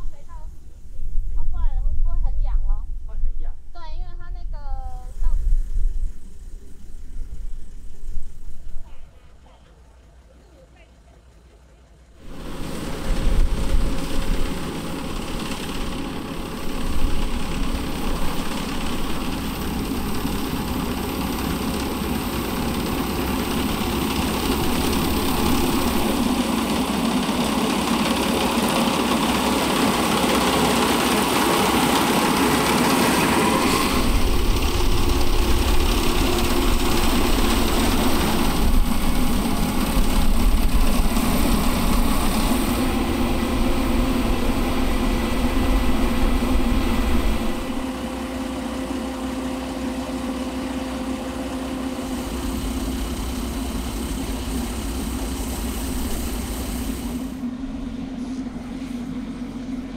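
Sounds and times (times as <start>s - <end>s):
combine harvester engine drone: 4.5s - 59.9s.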